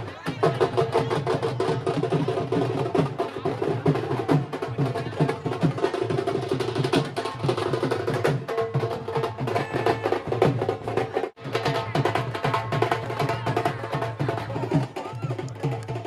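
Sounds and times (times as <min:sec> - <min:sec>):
fast dense drumming: 0:00.2 - 0:16.0.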